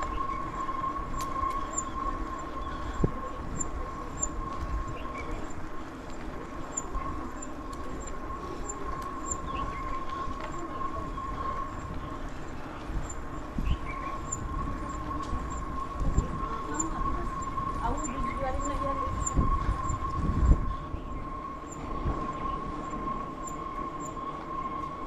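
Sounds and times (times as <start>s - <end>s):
high-pitched hum: 0.0s - 25.0s
low rumble: 0.0s - 25.0s.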